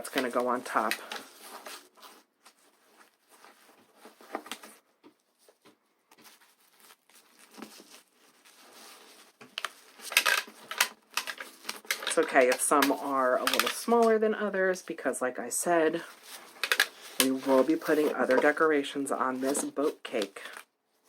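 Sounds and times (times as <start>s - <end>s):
rustling of disposable pants: 0.0s - 15.2s, 15.8s - 21.0s.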